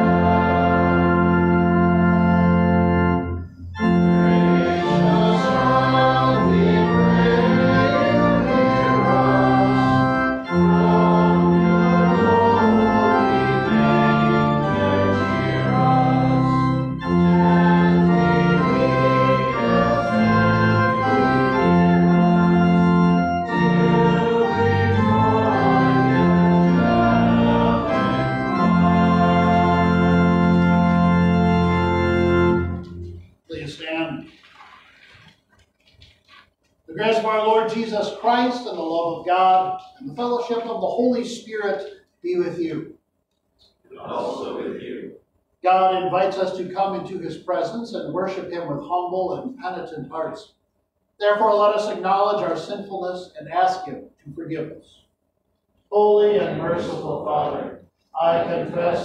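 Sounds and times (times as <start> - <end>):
organ playing a hymn: 0.0 - 36.3, 36.9 - 42.8, 45.6 - 50.5, 51.2 - 55.0, 55.8 - 59.0.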